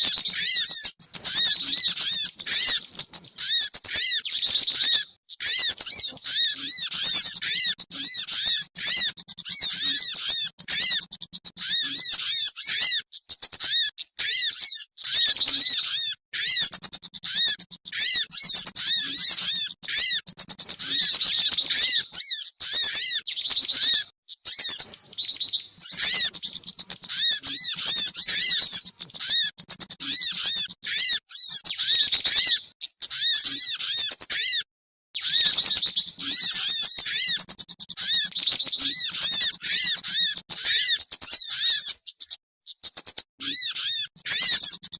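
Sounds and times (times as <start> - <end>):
small songbirds chirping: 0.0 - 44.9.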